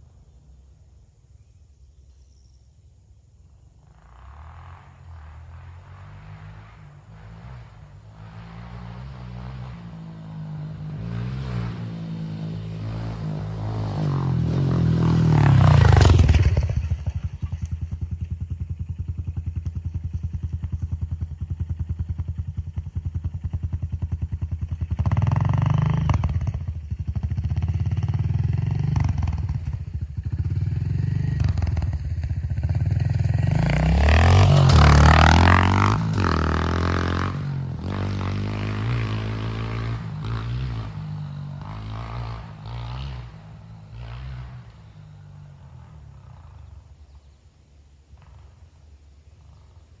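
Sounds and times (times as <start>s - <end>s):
motorcycle engine revving: 3.8s - 47.3s.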